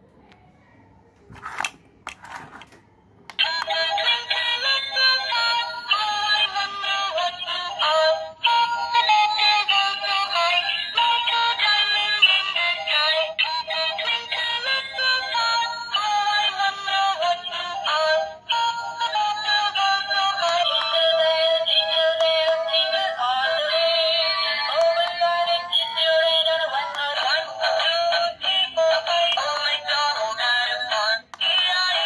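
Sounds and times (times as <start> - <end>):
synthesized toy melody: 3.4 - 32.0.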